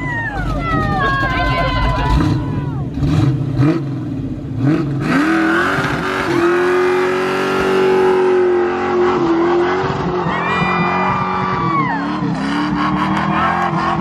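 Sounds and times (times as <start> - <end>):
car engine revving: 1.9 - 14.0.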